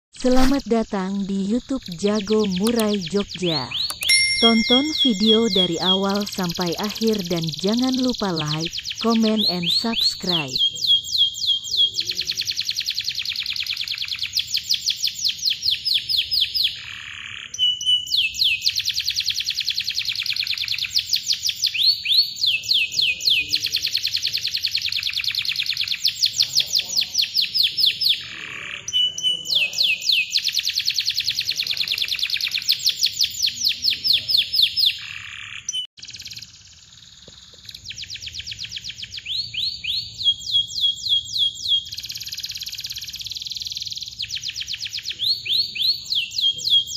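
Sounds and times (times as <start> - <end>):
canary trilling: 0.2 - 37.1, 37.7 - 46.9.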